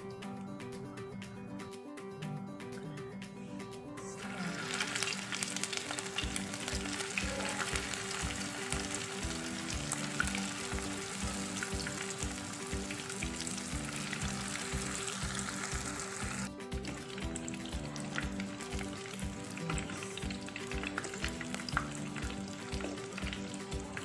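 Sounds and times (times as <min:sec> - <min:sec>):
background music with beat: 0:00.0 - 0:24.0
food sizzling in hot oil: 0:04.2 - 0:24.0.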